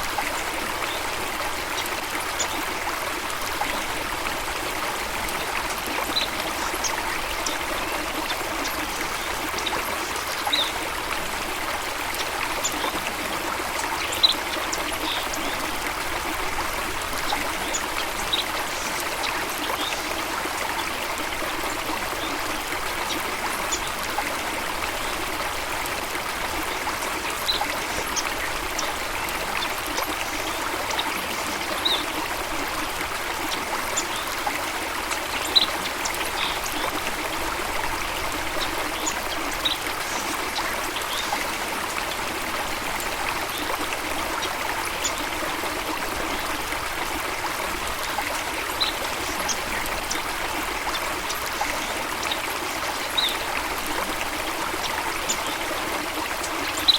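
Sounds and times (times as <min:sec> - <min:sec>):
water flowing in a stream: 0:00.0 - 0:56.9.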